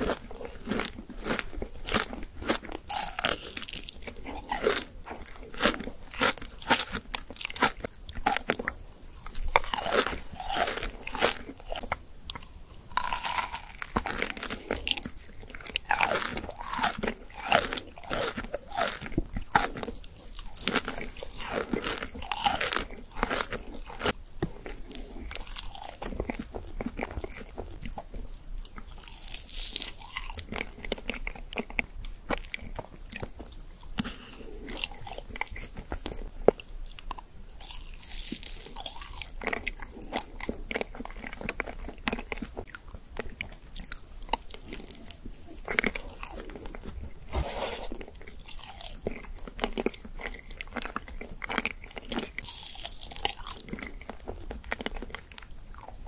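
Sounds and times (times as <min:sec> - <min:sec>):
chewing and biting dessert: 0:00.0 - 0:56.0.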